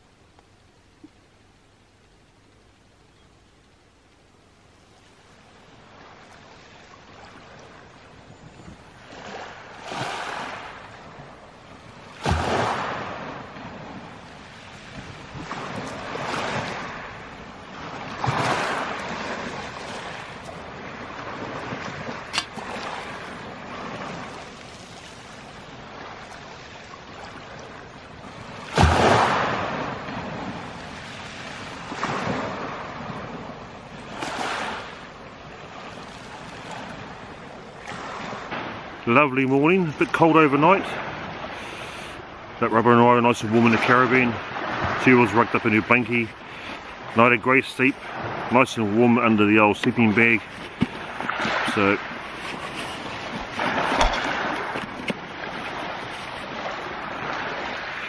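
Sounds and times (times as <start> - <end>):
waves washing on pebble beach: 9.0 - 58.0.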